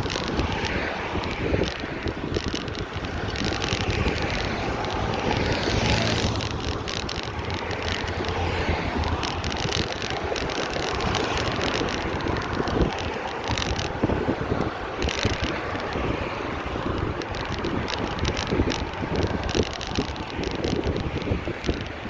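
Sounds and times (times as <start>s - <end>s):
bicycle tyre noise: 0.0s - 22.0s
bike rattles and clicks: 0.0s - 22.0s
wind on microphone: 0.0s - 22.0s.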